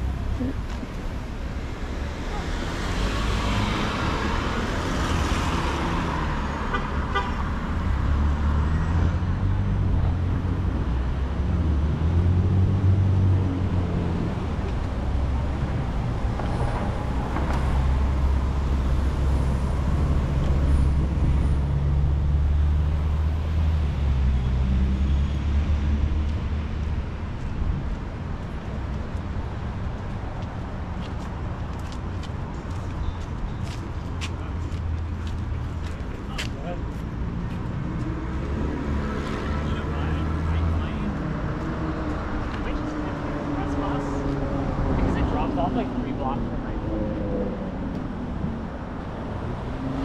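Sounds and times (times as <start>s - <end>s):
vehicles passing: 0.0s - 50.0s.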